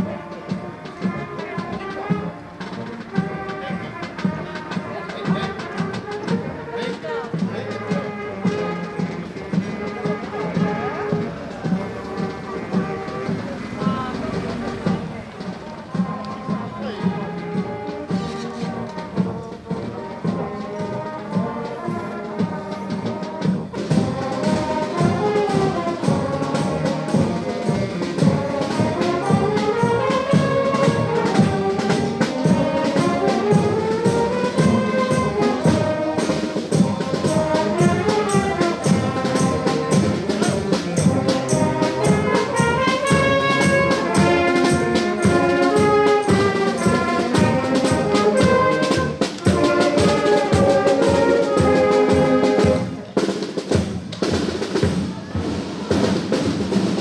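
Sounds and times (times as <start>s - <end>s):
brass band playing: 0.0s - 57.0s
steady drum beat: 0.0s - 57.0s.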